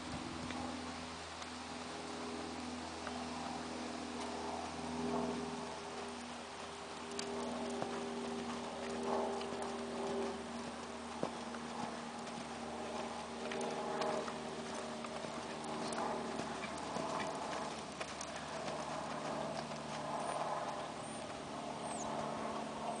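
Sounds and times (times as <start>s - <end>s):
steady low hum: 0.0s - 23.0s
horse hoofbeats on sand: 3.1s - 23.0s.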